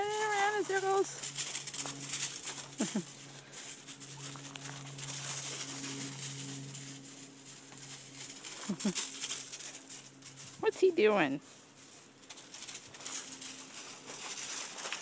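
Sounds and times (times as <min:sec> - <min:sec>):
small footsteps on gravel: 0:00.0 - 0:15.0.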